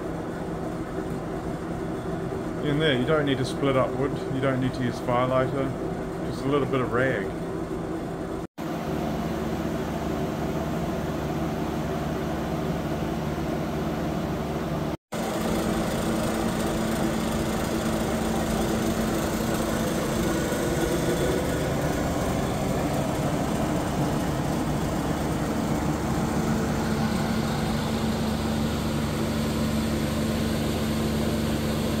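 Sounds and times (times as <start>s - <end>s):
forge blower humming: 0.0s - 32.0s.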